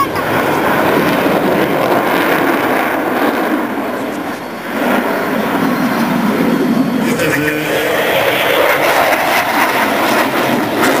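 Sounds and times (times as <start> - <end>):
jet aircraft flying over: 0.0 - 11.0.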